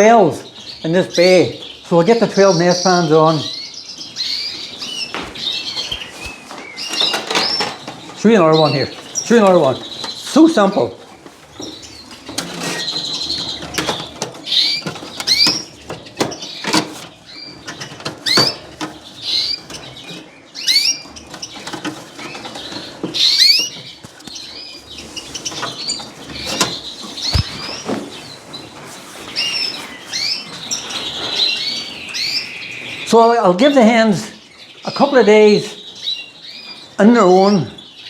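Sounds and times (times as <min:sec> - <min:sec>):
canaries chirping: 0:00.0 - 0:38.0.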